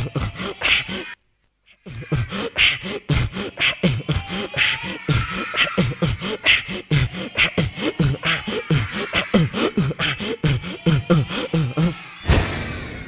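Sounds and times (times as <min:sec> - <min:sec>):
man beatboxing: 0:00.0 - 0:01.2, 0:01.8 - 0:12.0.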